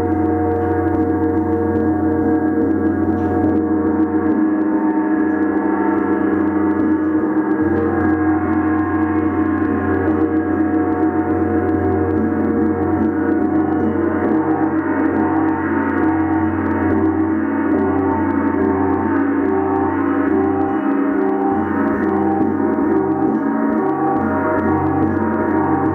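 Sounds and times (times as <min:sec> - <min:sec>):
gong ringing: 0:00.0 - 0:25.9.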